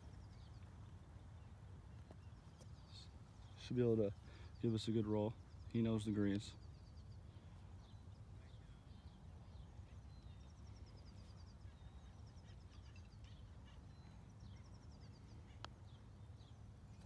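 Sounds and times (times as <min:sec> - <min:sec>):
faint birds chirping and trilling: 0:00.0 - 0:17.0.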